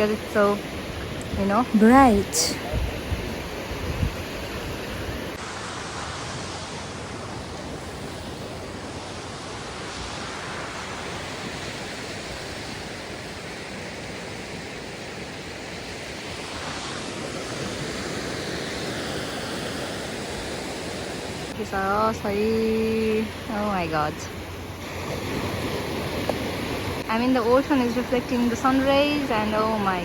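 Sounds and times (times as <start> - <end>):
waves breaking on sandy beach: 3.5 - 30.0.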